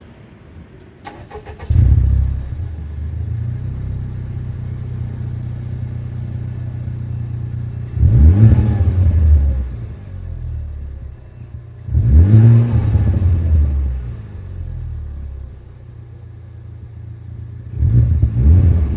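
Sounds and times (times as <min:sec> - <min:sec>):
car engine starting and revving: 0:01.0 - 0:18.9.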